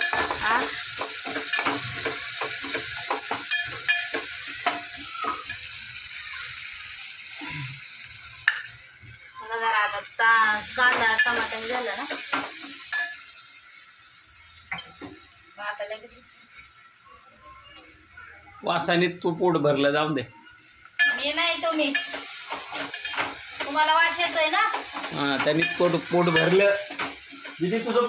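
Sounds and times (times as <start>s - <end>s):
food sizzling: 0.0s - 28.0s.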